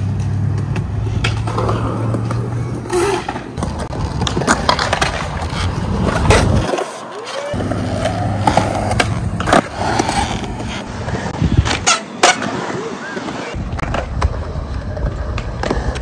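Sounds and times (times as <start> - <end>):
skateboard clacking: 0.0 - 16.0
skateboard wheels rolling on concrete: 0.0 - 16.0.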